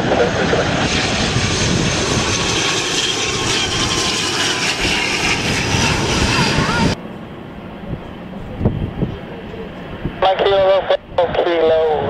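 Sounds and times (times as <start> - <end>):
wind rumble on microphone: 0.0 - 7.0, 7.8 - 12.0
turboprop airliner passing low: 0.0 - 12.0.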